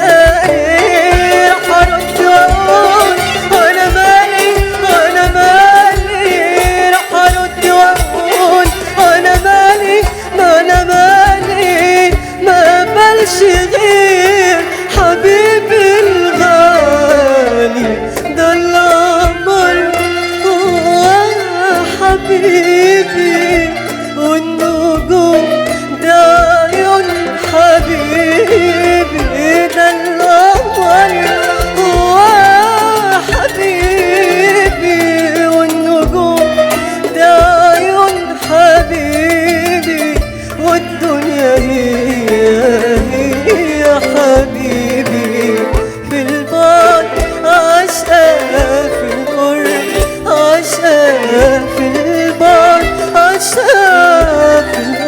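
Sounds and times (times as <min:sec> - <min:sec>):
ornamented folk melody: 0:00.0 - 0:55.0
percussion beat: 0:00.0 - 0:55.0.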